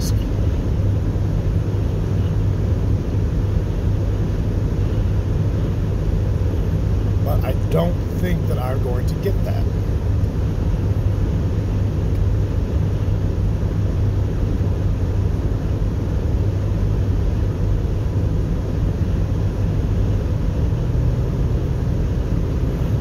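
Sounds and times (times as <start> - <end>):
car interior engine and road noise: 0.0 - 23.0.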